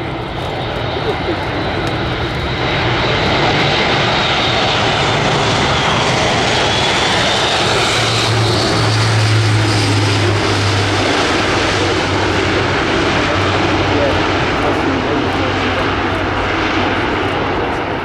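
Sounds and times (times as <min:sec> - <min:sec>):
propeller aircraft flying by: 0:00.0 - 0:18.0.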